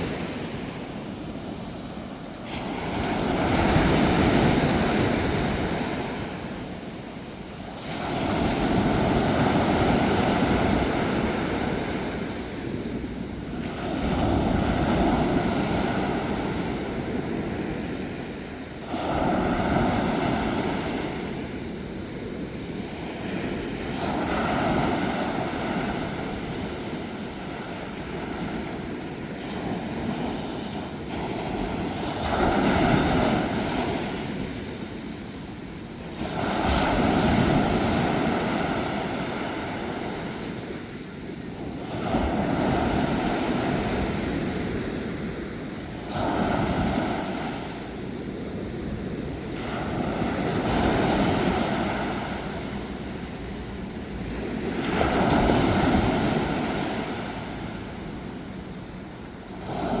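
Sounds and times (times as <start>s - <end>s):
sea waves breaking on shore: 0.0s - 60.0s.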